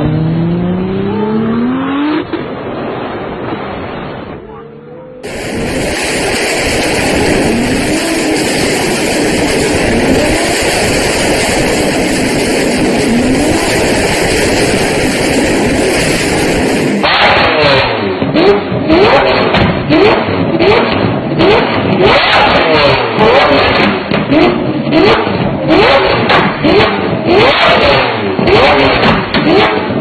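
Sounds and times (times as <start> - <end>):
engine revving in sharp blips: 0.0 - 3.1, 5.1 - 30.0
car engine accelerating: 0.0 - 30.0.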